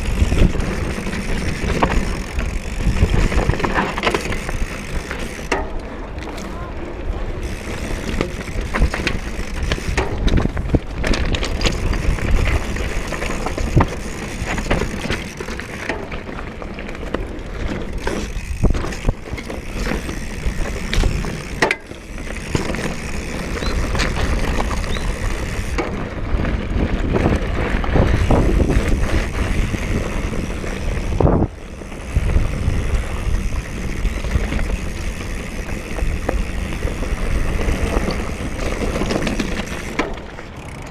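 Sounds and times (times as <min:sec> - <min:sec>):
bike rattling over bumps: 0:00.0 - 0:40.9
bike tyres on dirt: 0:00.0 - 0:40.9.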